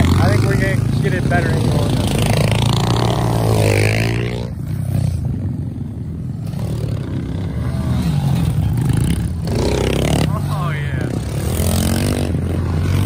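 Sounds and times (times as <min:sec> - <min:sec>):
small motorbike engine revving: 0:00.0 - 0:05.5, 0:06.4 - 0:13.0.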